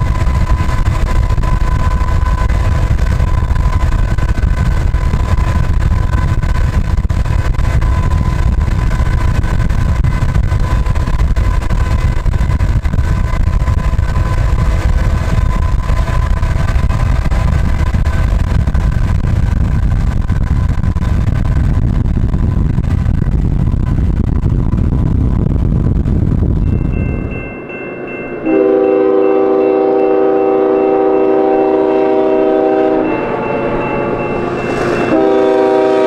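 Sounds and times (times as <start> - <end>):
diesel locomotive humming drone: 0.0 - 36.0
wind and road noise rumble: 0.0 - 36.0.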